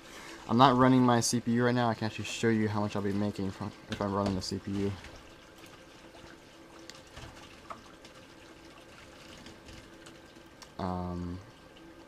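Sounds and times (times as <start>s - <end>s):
computer fans whirring: 0.0s - 12.0s.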